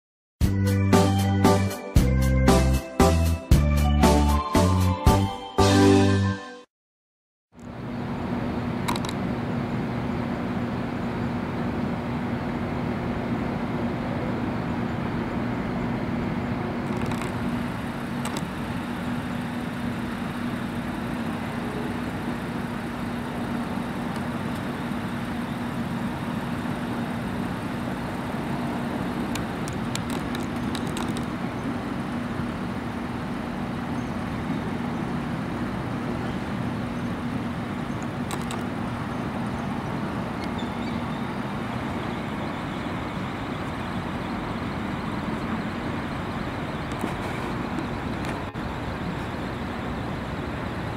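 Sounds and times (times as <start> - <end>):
constant low hum: 7.6 - 50.9.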